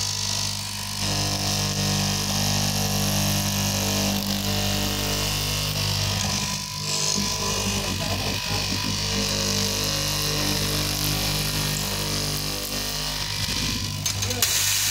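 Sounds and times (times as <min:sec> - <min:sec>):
cloth cutting machine running: 0:00.0 - 0:14.9.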